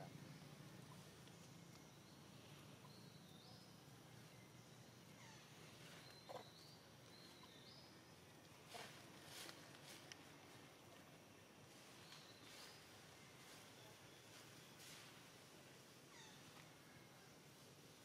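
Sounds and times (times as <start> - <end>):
distant bird calls: 0.0 - 17.4.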